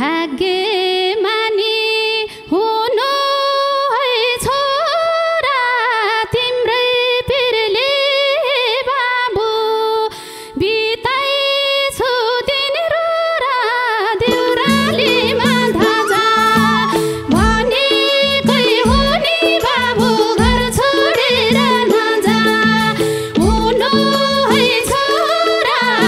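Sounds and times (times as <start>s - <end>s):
woman singing folk song: 0.0s - 26.0s.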